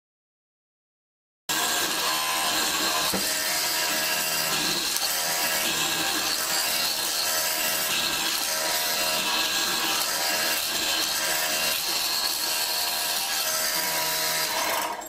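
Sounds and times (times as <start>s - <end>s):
mortising machine motor running: 1.5s - 15.0s.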